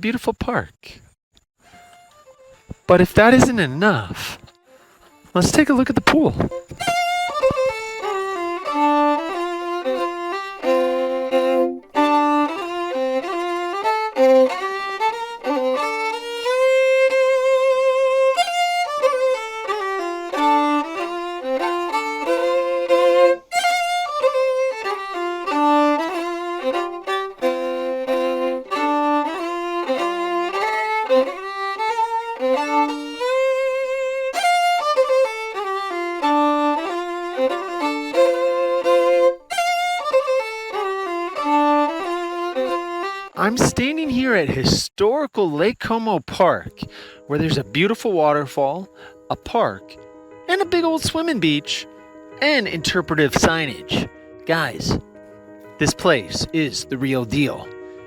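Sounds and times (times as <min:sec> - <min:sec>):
fiddle melody: 0:01.6 - 0:58.0.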